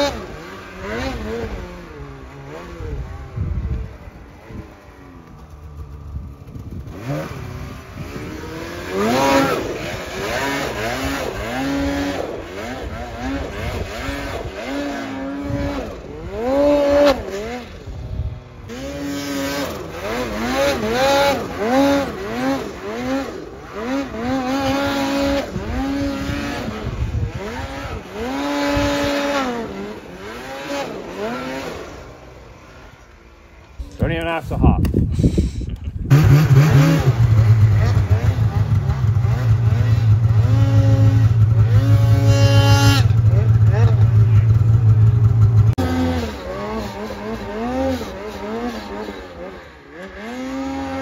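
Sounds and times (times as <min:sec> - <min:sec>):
snowmobile engine revving: 0:00.0 - 0:51.0.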